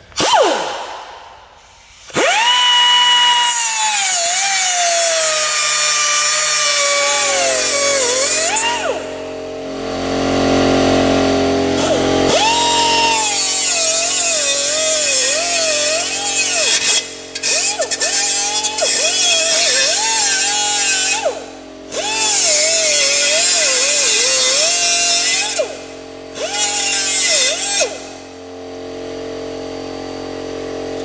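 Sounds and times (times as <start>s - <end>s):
pneumatic cut-off tool cutting metal: 0.0s - 29.4s.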